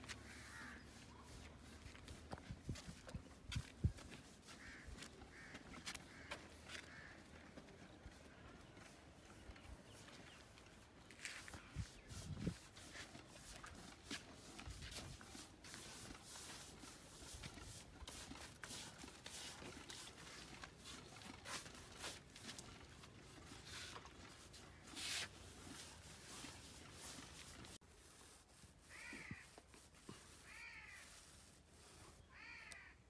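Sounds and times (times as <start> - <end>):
paint brushes swishing on wall: 0.0 - 32.9.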